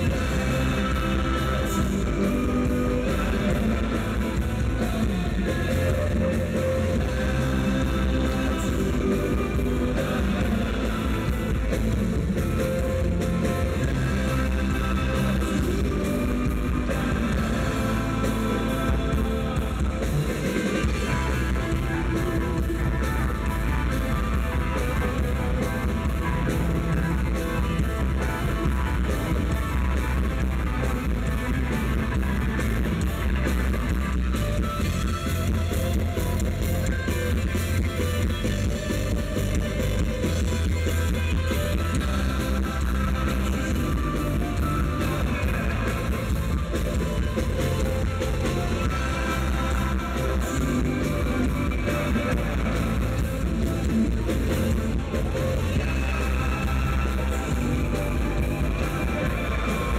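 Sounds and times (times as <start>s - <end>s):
drums with cymbal strokes: 0.0s - 59.9s
electric bass: 0.0s - 59.9s
electric guitar: 0.0s - 59.9s
man singing: 0.0s - 59.9s.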